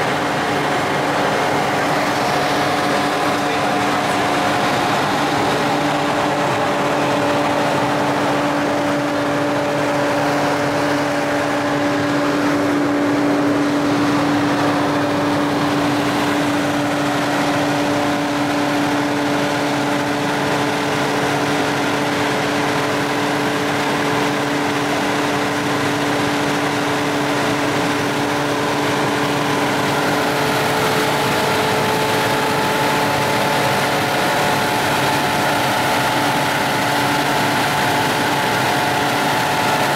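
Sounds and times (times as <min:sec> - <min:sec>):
ground support cart engine hum: 0:00.0 - 0:39.9.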